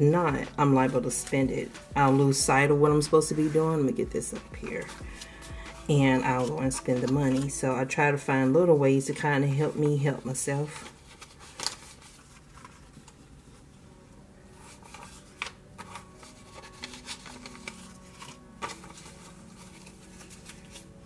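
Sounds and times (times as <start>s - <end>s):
paper bills being counted: 0.0s - 13.2s, 14.6s - 21.0s.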